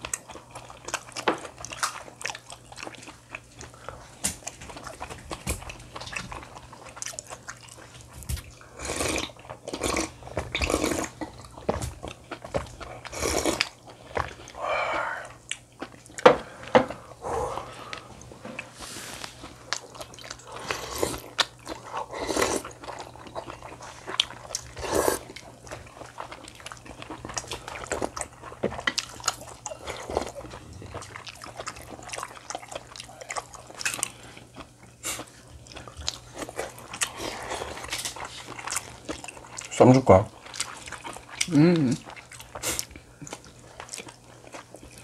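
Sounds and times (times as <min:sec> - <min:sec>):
chewing and biting food: 0:00.0 - 0:14.6, 0:15.2 - 0:45.0.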